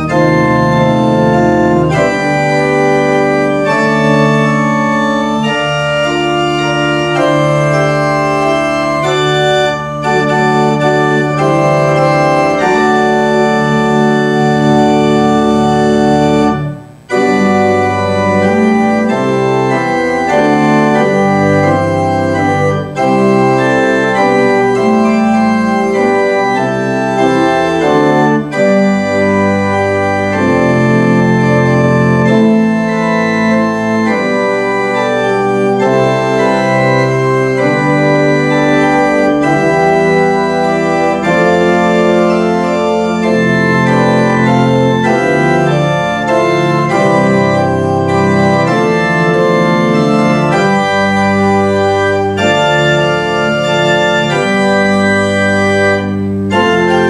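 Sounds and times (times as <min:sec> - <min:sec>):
pipe organ chords: 0:00.0 - 0:57.0.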